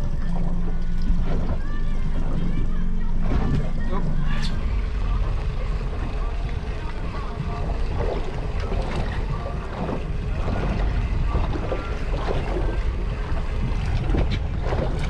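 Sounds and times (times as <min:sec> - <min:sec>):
steady rumble: 0:00.0 - 0:15.0
water lapping against boat: 0:00.0 - 0:15.0
wind buffeting microphone: 0:00.0 - 0:15.0.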